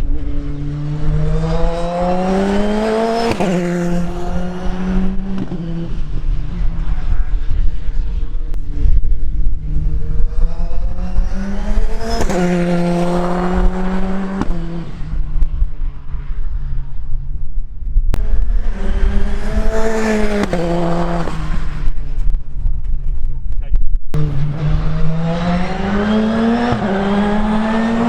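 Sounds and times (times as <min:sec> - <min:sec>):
race car engine accelerating: 0:00.0 - 0:15.4, 0:18.2 - 0:22.2, 0:24.2 - 0:28.0.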